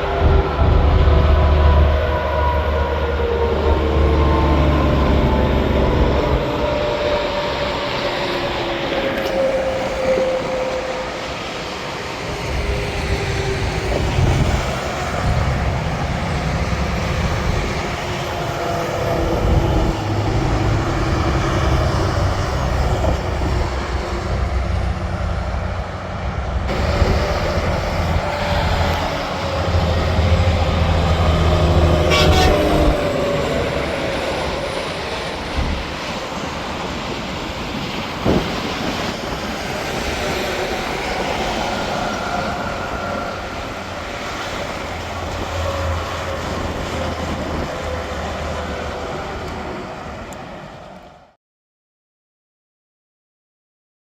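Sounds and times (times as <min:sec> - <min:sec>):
heavy trucks passing on highway: 0:00.0 - 0:51.3.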